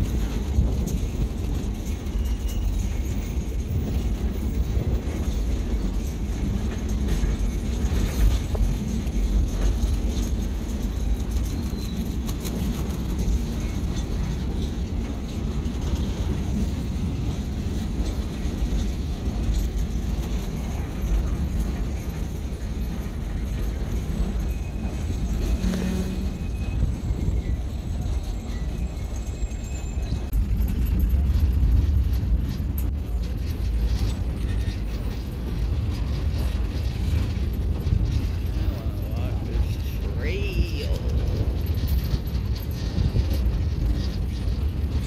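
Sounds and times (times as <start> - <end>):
scattered rail clicks: 0.0 - 45.0
train rumbling on rails: 0.0 - 45.0.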